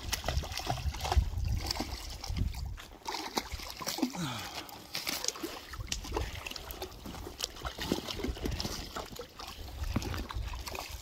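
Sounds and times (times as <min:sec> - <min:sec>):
river water lapping: 0:00.0 - 0:11.0
small water splashes: 0:00.0 - 0:11.0.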